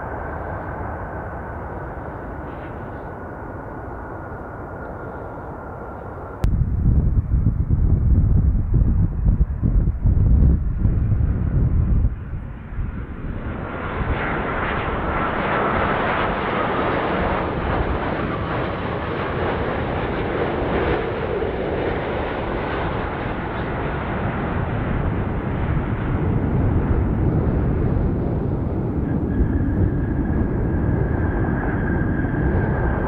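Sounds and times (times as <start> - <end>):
jet engines rushing: 0.0 - 33.0.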